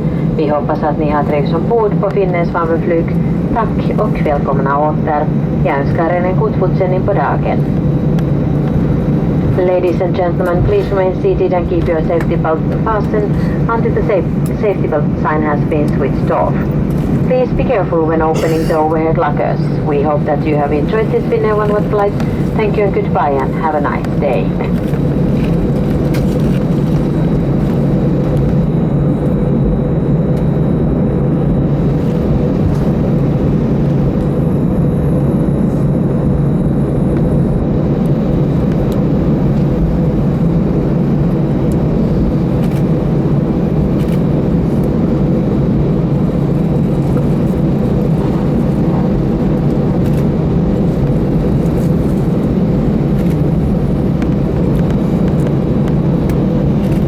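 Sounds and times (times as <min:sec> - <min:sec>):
air conditioning: 0:00.0 - 0:57.0
airplane cabin rumble: 0:00.0 - 0:57.0
jet engines at low power: 0:00.0 - 0:57.0.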